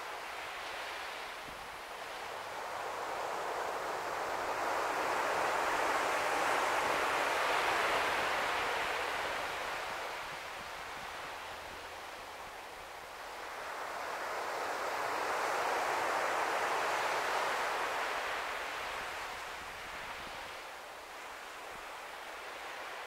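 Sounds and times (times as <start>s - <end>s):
surf washing on beach: 0.0s - 23.0s.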